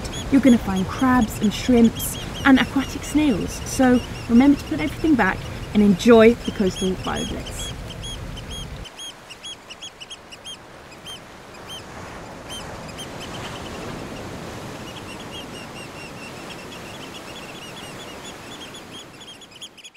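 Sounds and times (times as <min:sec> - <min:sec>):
birds chattering: 0:00.0 - 0:19.9
birds piping calls: 0:00.0 - 0:19.9.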